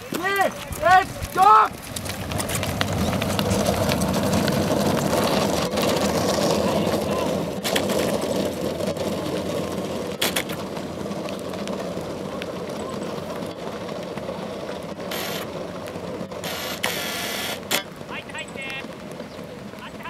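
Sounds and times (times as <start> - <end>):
wheel and pedal drive rattling: 0.0 - 20.0.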